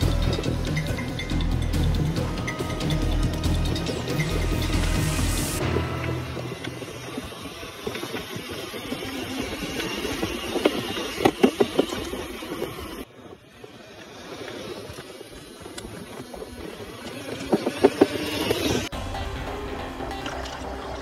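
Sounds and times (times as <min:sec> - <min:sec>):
tyres crunching on loose stones: 0:00.0 - 0:18.9.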